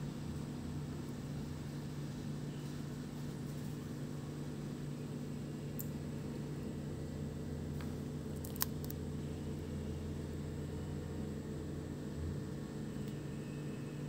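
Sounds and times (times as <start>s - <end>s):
low machine hum with hiss: 0.0s - 14.0s.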